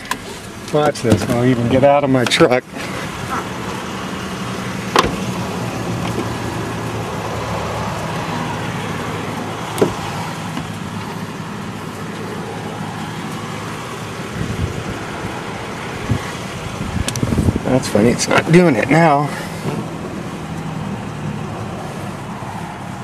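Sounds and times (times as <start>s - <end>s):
pickup truck engine idling: 0.0s - 23.0s
road noise: 0.0s - 23.0s.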